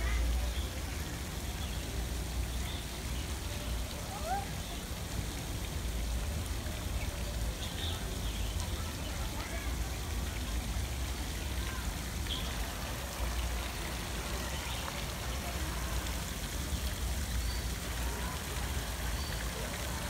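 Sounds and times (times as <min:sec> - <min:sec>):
fountain jets splashing into water: 0:00.0 - 0:20.0.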